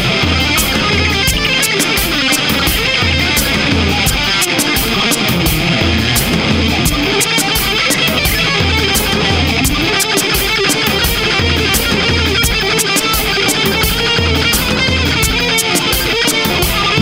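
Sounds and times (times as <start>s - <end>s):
drum beat: 0.0s - 17.0s
electric guitar: 0.0s - 17.0s.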